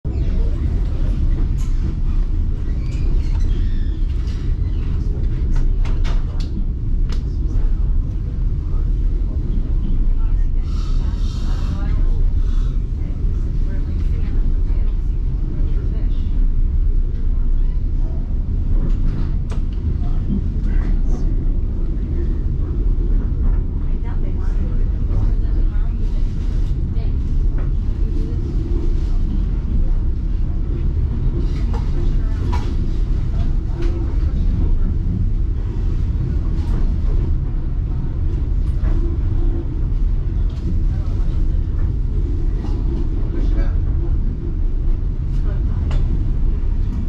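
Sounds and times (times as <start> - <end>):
train low rumble: 0.0 - 47.0
faint voices: 0.1 - 47.0.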